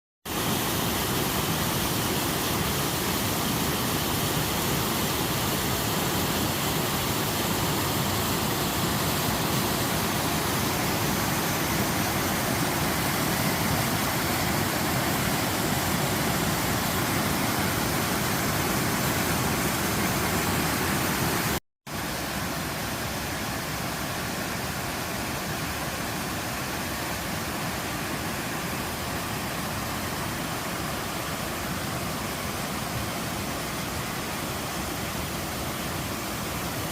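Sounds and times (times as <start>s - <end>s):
waterfall rushing: 0.3s - 36.9s.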